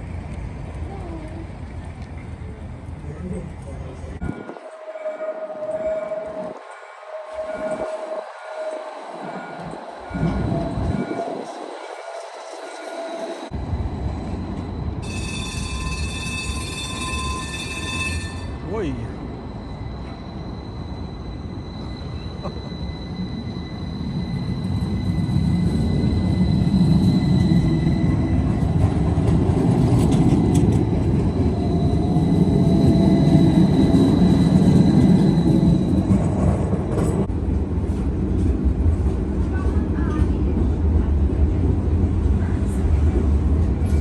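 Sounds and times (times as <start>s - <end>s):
tram running on tracks: 0.0s - 44.0s.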